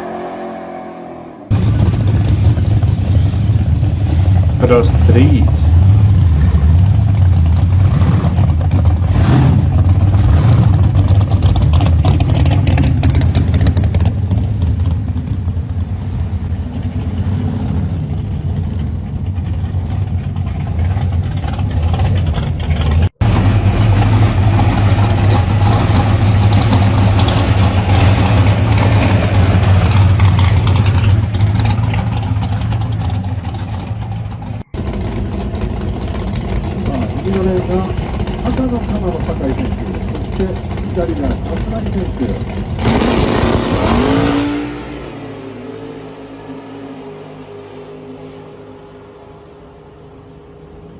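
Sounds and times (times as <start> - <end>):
car engine revving: 0.0 - 50.9
muscle car exhausts passing: 0.0 - 50.9
deep steady car exhaust: 1.4 - 50.9.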